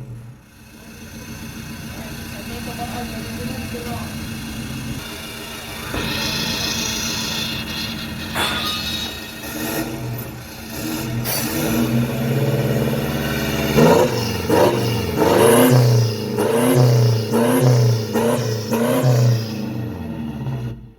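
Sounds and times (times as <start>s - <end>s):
diesel engine revving: 0.0s - 20.9s.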